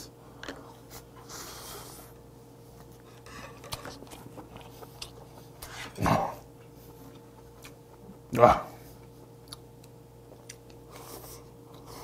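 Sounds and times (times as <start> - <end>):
chewing crab meat: 0.4 - 12.0.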